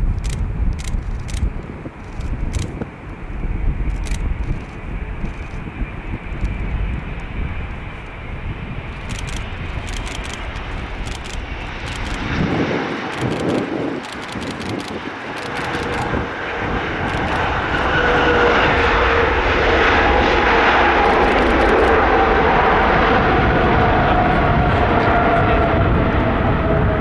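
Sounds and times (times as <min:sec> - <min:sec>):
airliner jet engines: 0:00.0 - 0:27.0
steady whine: 0:00.0 - 0:27.0.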